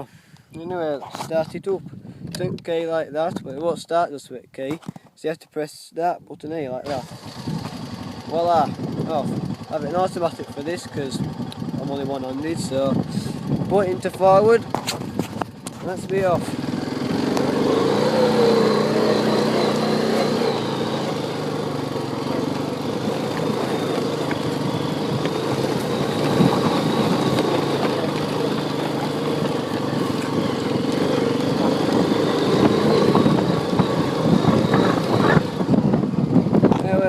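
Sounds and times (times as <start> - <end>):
quad bike engine running: 6.8 - 37.0.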